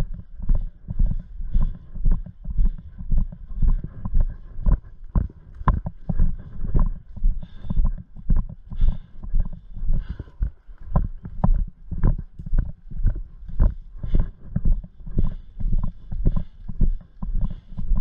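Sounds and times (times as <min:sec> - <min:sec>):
heavy footsteps walking: 0:00.0 - 0:18.0.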